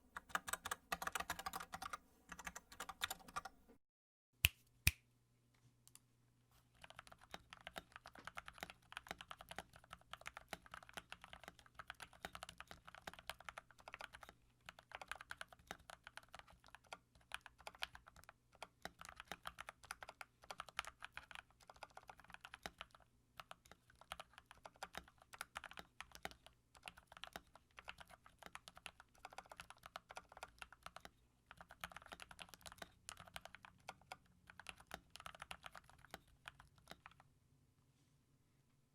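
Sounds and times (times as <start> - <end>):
mechanical keyboard typing: 0.1 - 3.6, 6.8 - 37.2.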